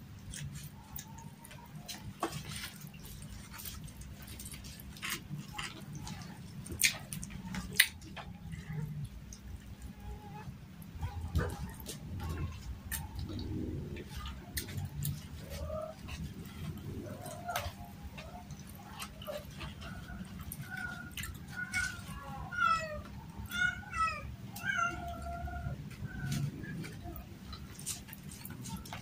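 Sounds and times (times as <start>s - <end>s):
clicks and smacks of eating: 0.0s - 29.0s.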